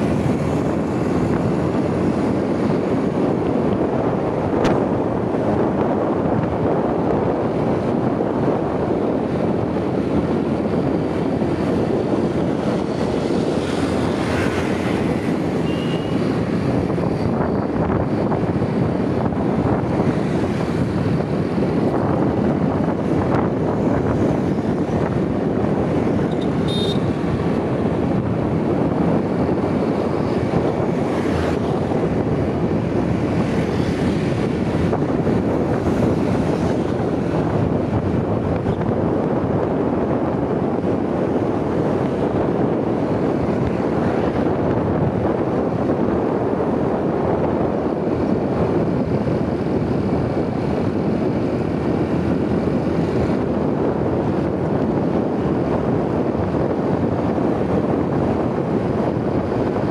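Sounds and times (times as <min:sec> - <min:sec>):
motorbike running: 0:00.0 - 0:59.9
road noise: 0:00.0 - 0:59.9
wind rush on microphone: 0:00.0 - 0:59.9.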